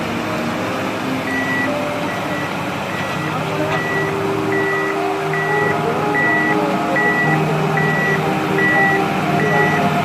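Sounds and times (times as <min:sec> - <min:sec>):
vehicle engine running: 0:00.0 - 0:10.0
reversing alarm beeping: 0:01.3 - 0:10.0.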